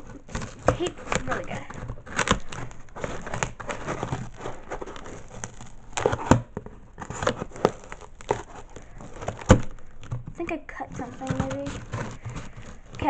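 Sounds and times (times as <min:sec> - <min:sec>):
cardboard crinkling and scraping: 0:00.0 - 0:13.0
packing tape tearing: 0:00.0 - 0:13.0.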